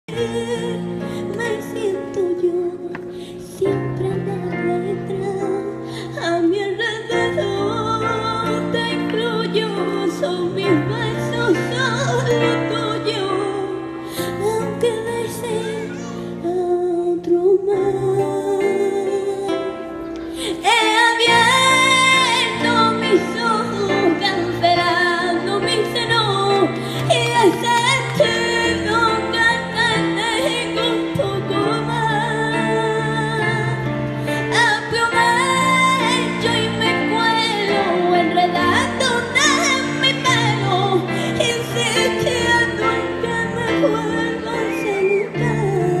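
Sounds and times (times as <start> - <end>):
woman singing with vibrato: 0.0 - 46.0.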